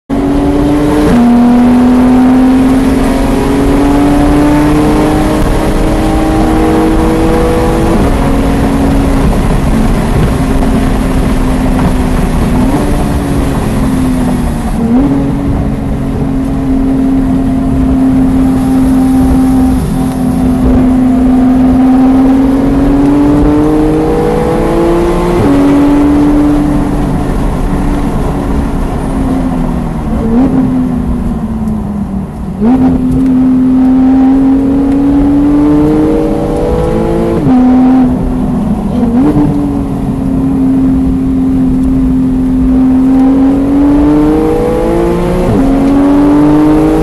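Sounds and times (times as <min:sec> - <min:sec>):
car engine accelerating hard: 0:00.1 - 0:47.0.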